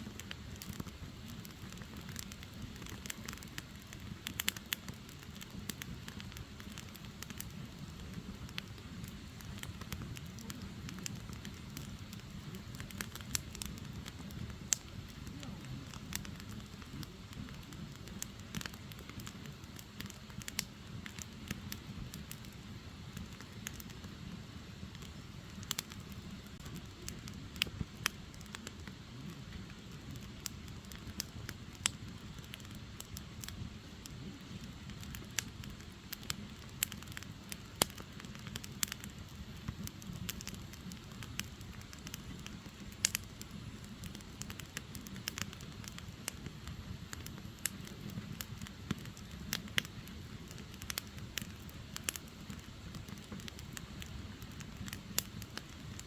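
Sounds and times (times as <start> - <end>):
fire crackling and popping: 0.0 - 56.0
low rumble of flame: 0.0 - 56.0.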